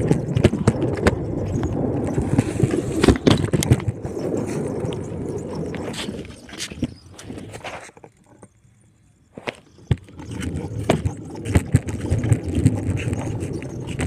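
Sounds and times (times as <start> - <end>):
scooter wheels rolling over rough ground: 0.0 - 14.0.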